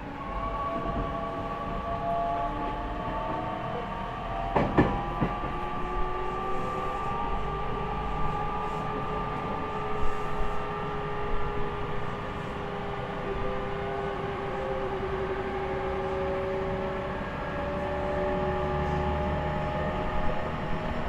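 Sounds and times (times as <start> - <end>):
train motor whine: 0.0 - 21.0.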